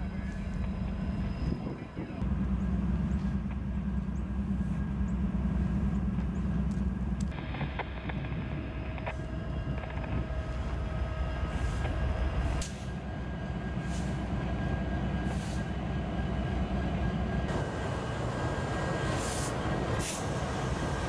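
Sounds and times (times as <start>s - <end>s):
diesel engine drone: 0.0s - 21.0s
steel wheels on rail: 0.0s - 21.0s.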